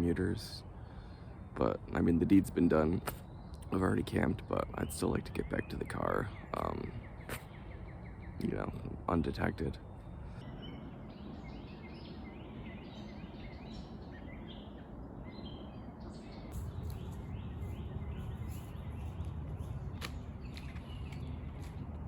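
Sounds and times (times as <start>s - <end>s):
distant road traffic hum: 0.0s - 22.0s
small birds chirping: 0.0s - 22.0s.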